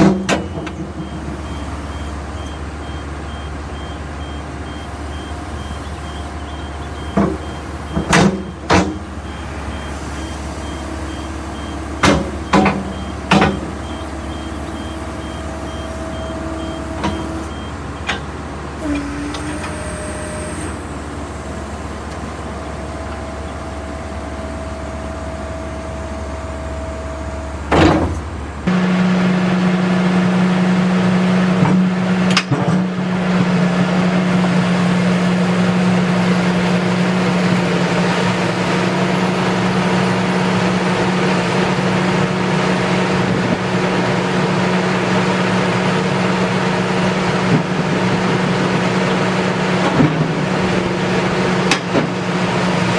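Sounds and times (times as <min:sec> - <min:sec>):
excavator engine and hydraulics: 0:00.0 - 0:52.9.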